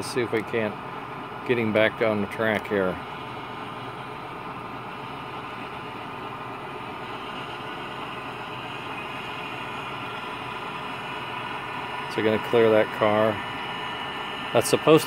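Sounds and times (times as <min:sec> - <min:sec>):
model locomotive engine rumble: 0:00.0 - 0:15.0.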